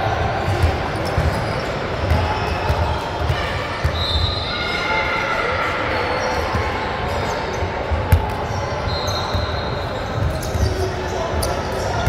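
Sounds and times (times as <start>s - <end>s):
murmur of voices: 0.0s - 12.0s
sneaker squeaks: 0.6s - 4.9s, 6.1s - 12.0s.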